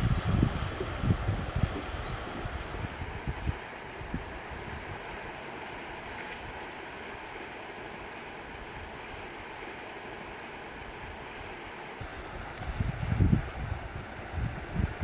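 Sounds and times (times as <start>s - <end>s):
waves washing over rocks: 0.0s - 15.0s.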